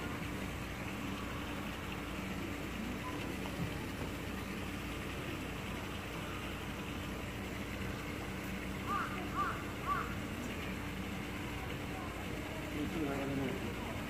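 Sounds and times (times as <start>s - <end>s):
pool water circulation hiss and hum: 0.0s - 14.0s.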